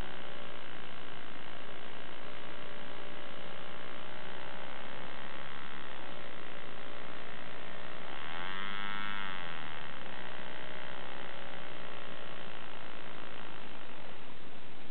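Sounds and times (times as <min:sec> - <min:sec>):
model diesel engine buzzing: 0:00.0 - 0:14.9.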